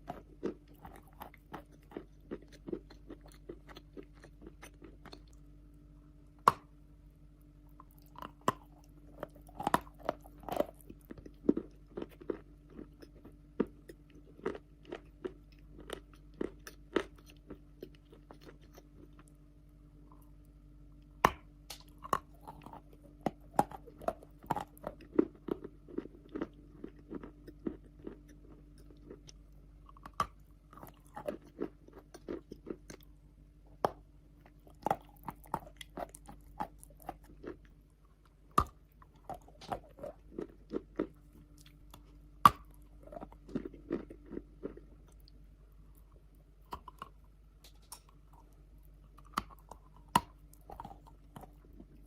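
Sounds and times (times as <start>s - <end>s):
chewing crunches: 0.0s - 5.6s, 7.6s - 52.0s
faint steady hum: 0.0s - 52.0s.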